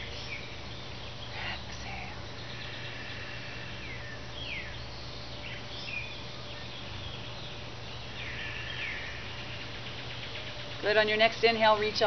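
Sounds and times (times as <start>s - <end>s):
birds chirping: 0.0s - 12.0s
low background hum: 0.0s - 12.0s.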